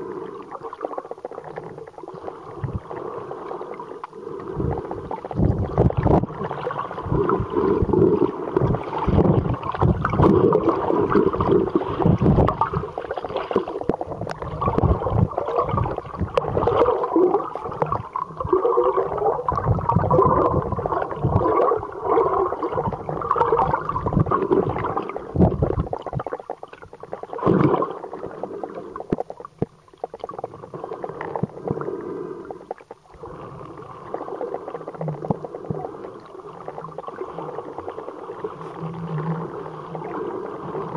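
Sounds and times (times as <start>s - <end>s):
underwater bubbling and gurgling: 0.0s - 40.9s.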